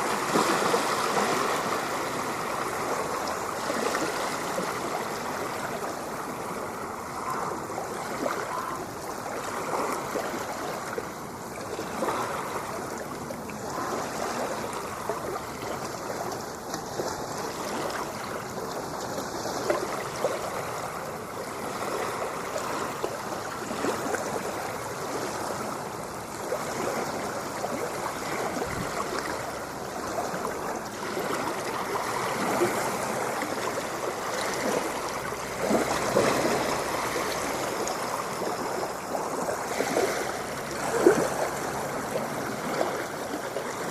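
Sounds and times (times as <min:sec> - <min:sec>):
water rushing and splashing: 0:00.0 - 0:43.9.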